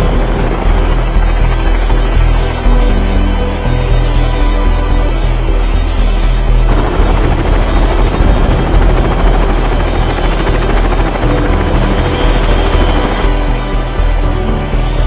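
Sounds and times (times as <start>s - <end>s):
helicopter rotor and engine: 0.0s - 15.0s.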